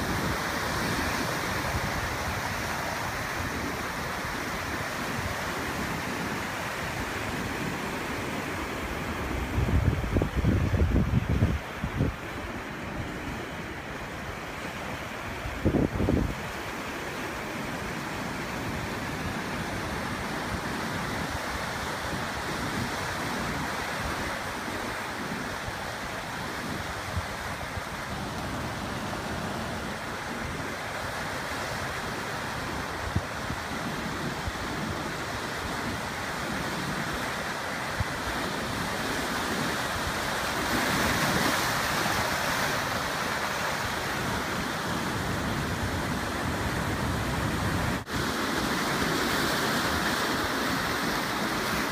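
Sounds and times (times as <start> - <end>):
ocean waves breaking on shore: 0.0 - 51.9.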